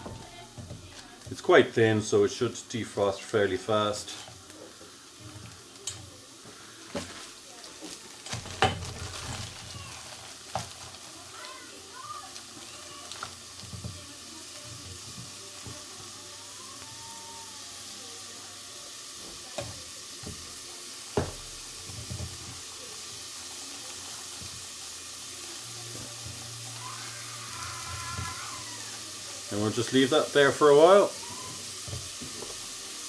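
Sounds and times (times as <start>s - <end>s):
onions sizzling in a pan: 0.0s - 33.0s.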